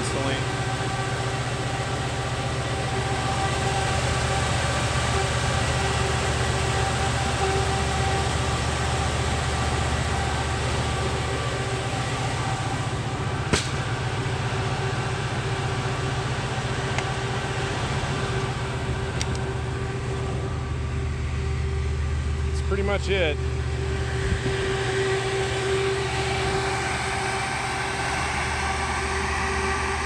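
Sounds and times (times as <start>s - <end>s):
cooling fans rushing drone: 0.0s - 30.0s
generator engine humming: 0.0s - 30.0s.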